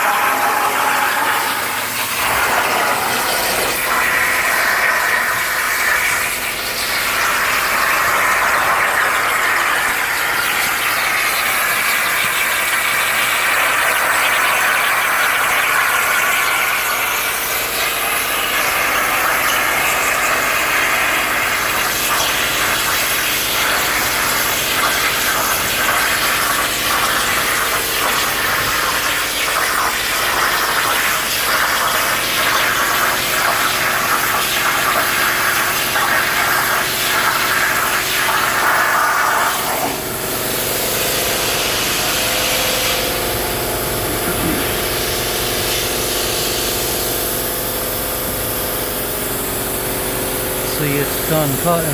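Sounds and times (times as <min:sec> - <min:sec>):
plasma cutter torch hissing: 0:00.0 - 0:47.7, 0:50.7 - 0:51.9.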